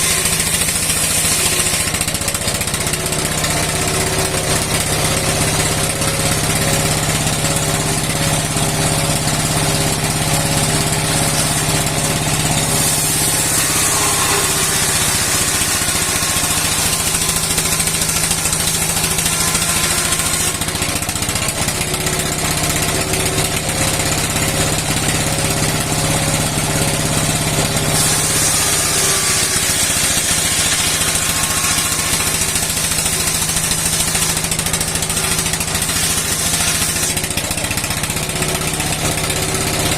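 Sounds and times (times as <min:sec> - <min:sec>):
saw cutting wood: 0:00.0 - 0:39.9
stationary engine running: 0:00.0 - 0:39.9.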